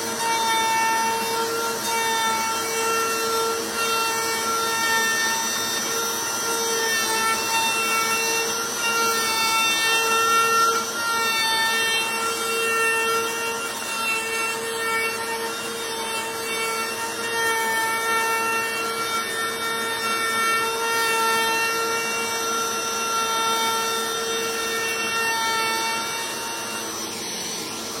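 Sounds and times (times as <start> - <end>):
machine whine: 0.0 - 28.0.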